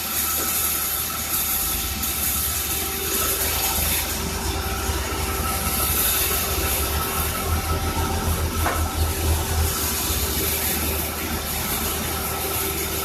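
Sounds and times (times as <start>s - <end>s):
sawmill machinery rumbling: 0.0s - 13.0s.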